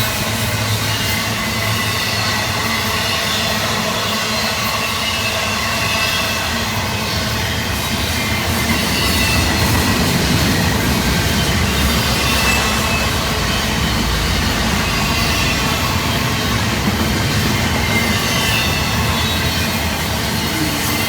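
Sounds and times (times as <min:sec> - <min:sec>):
train wheels rumbling on rail: 0:00.0 - 0:21.0
faint high wheel squeal: 0:00.2 - 0:21.0.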